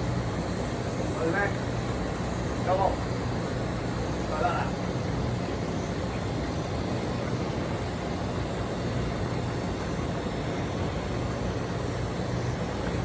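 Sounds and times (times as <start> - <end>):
heat pump humming: 0.0 - 13.0.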